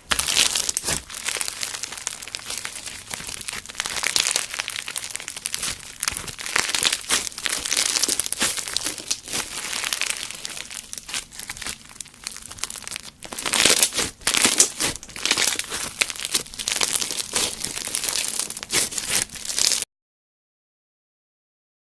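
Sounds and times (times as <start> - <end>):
slime squishing with wet crackles: 0.0 - 19.8.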